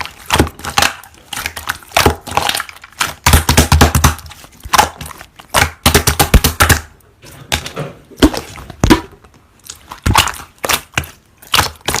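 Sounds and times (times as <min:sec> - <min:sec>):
slime crackling and popping: 0:00.0 - 0:12.0.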